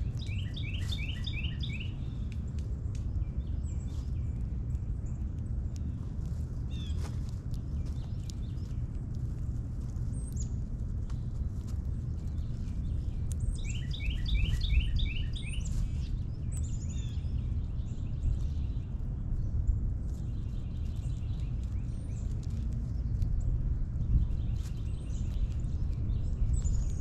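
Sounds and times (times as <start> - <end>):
songbirds chirping: 0.0 - 27.0
steady low rumble: 0.0 - 27.0.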